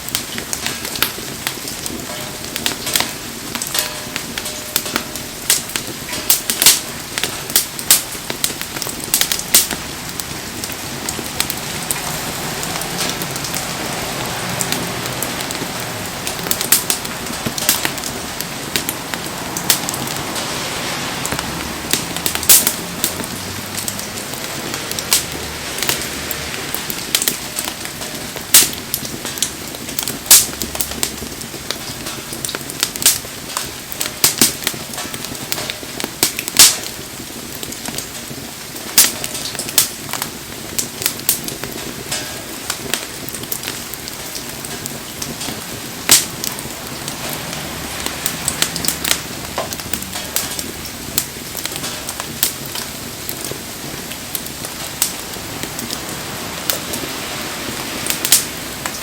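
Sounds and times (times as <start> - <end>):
campfire crackling and popping: 0.0 - 59.0
rain falling: 0.0 - 59.0.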